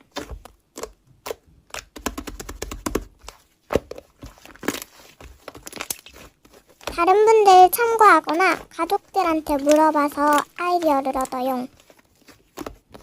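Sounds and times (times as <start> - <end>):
slime popping: 0.0 - 13.0.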